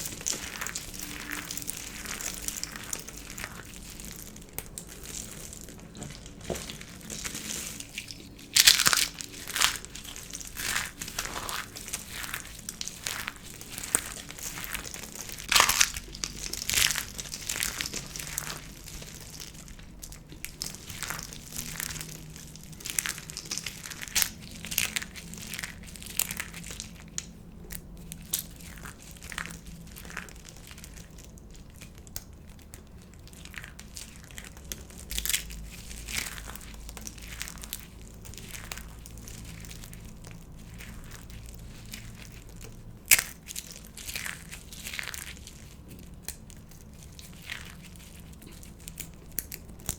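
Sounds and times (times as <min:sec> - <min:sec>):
dry soap crunching and snapping: 0:00.0 - 0:49.9.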